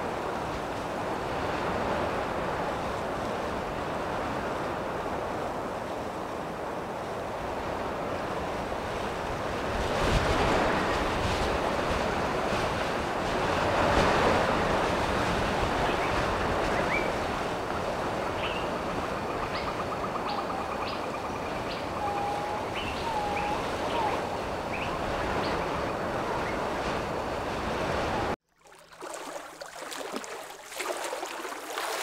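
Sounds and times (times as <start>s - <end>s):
surf washing on shore: 0.0s - 32.0s.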